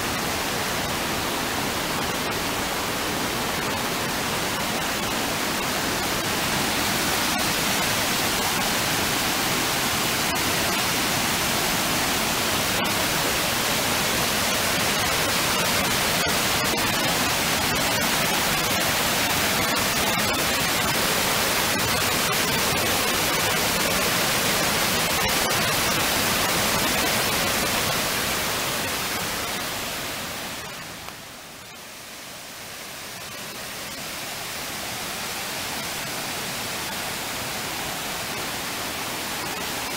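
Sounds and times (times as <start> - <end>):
rushing white water: 0.0 - 39.9.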